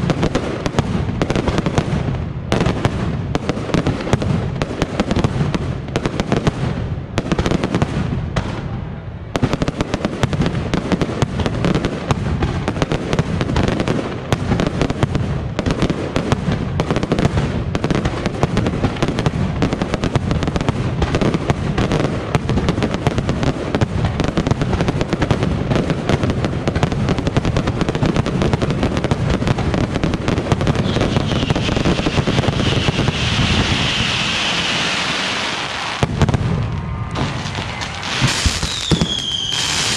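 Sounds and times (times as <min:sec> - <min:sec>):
firecrackers banging rapidly: 0:00.0 - 0:08.7, 0:09.4 - 0:39.9.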